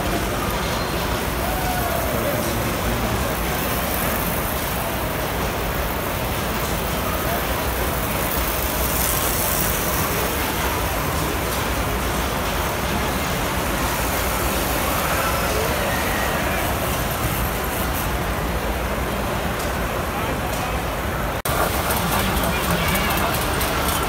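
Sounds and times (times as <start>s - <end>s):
crowd chatter: 0.0s - 24.0s
model trains rumbling on track: 0.0s - 24.0s.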